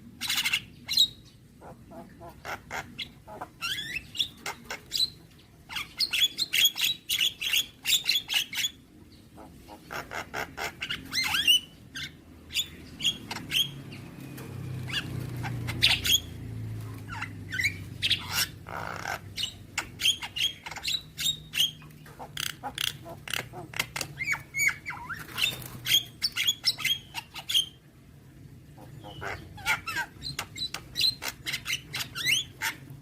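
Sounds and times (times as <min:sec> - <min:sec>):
bird singing chattering song: 0:00.2 - 0:09.5, 0:10.6 - 0:27.8, 0:28.8 - 0:33.0.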